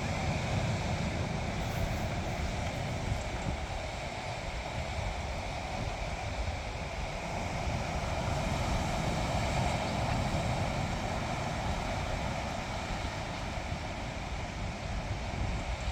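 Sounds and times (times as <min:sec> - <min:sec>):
surf washing on a beach: 0:00.0 - 0:15.9
wind rumbling on microphone: 0:00.0 - 0:15.9.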